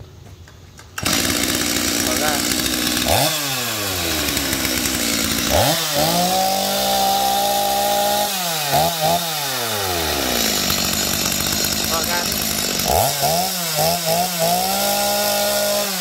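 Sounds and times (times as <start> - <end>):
chainsaw revving and idling: 1.0 - 16.0.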